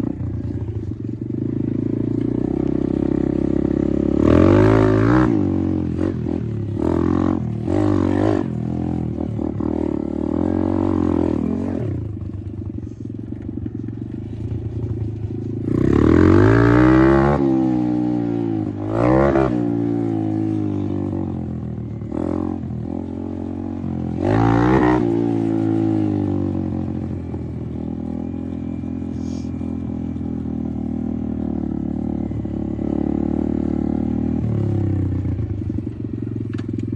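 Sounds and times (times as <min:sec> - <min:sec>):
dirt bike engine revving: 0:01.3 - 0:12.2, 0:15.2 - 0:29.8, 0:30.4 - 0:35.8.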